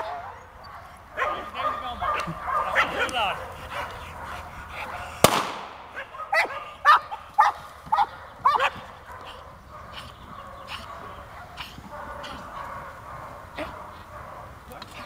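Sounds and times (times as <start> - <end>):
dog barking: 0.0 - 5.2, 5.9 - 15.0.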